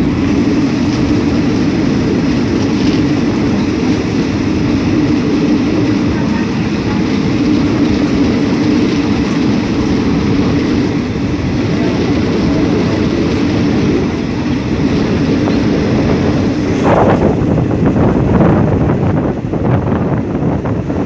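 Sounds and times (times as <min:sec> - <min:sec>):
train wheels rumbling on track: 0:00.0 - 0:21.0
wind buffeting microphone: 0:00.0 - 0:21.0.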